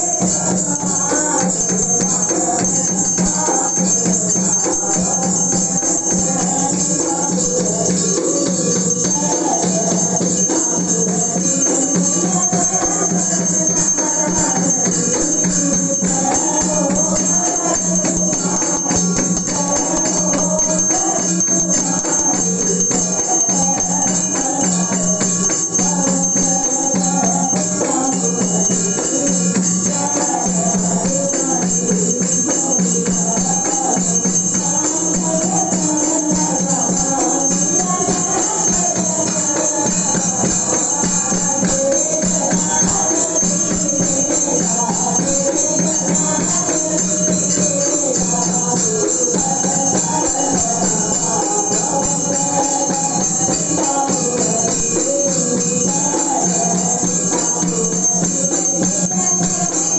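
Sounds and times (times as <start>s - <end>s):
jingling and clanging percussion: 0.0s - 59.9s
people singing devotional song: 0.0s - 59.9s.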